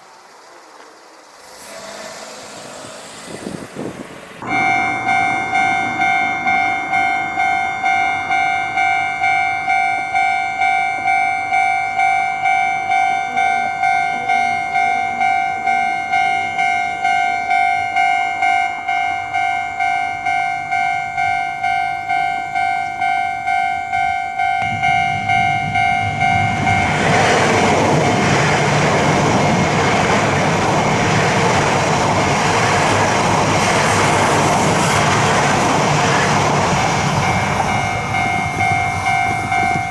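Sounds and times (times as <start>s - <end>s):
train rushing past: 0.0s - 39.9s
level crossing warning bell: 1.4s - 39.9s.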